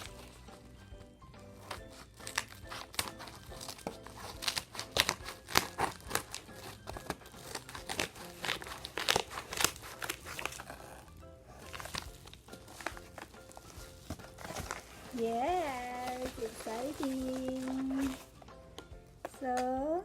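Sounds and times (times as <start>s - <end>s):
packaging crinkling and tearing: 0.0s - 0.7s, 1.6s - 18.4s
scissors cutting package: 0.0s - 19.7s
background music: 0.0s - 20.0s.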